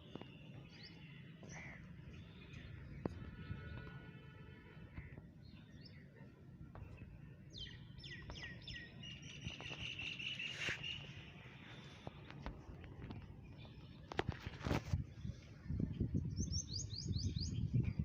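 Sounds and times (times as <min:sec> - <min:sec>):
small birds chirping: 0:00.0 - 0:04.1, 0:05.0 - 0:18.0.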